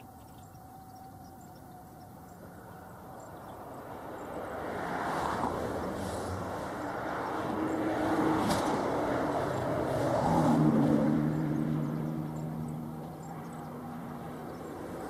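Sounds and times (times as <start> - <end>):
engine passing: 2.0 - 15.0.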